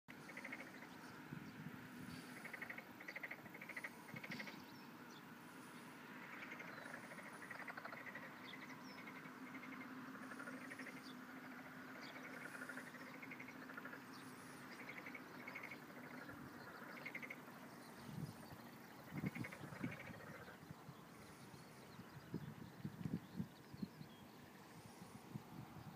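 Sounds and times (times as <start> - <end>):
frogs croaking: 0.1 - 25.9.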